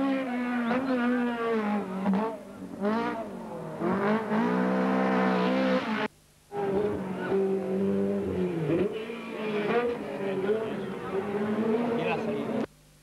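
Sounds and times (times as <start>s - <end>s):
racing car engine revving: 0.0s - 12.7s.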